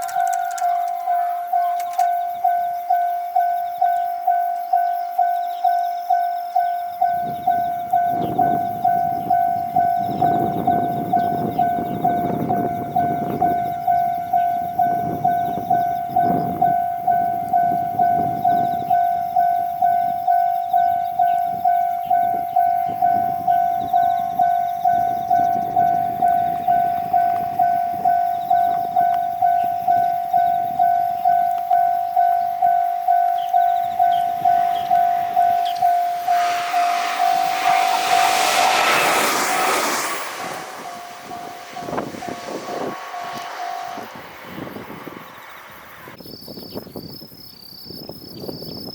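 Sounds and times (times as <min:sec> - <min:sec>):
level crossing warning bell: 0:00.0 - 0:45.7
train rumbling with clacking wheels: 0:00.0 - 0:46.2.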